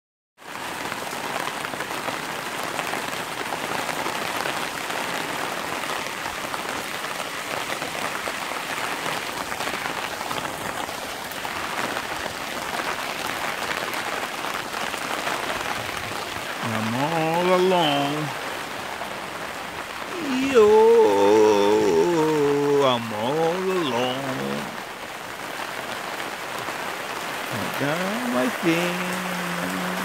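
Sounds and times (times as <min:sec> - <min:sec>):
rain on wet pavement: 0:00.4 - 0:30.0.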